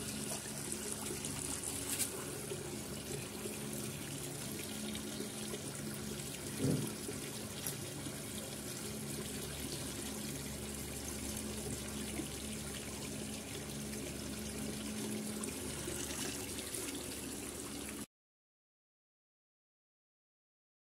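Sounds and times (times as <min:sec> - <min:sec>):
low steady hum: 0:00.0 - 0:18.0
trickling running water: 0:00.0 - 0:18.1.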